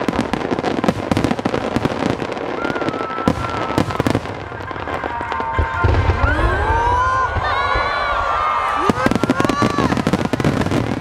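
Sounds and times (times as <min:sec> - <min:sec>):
fireworks booms: 0:00.0 - 0:11.0
fireworks crackling: 0:00.0 - 0:11.0.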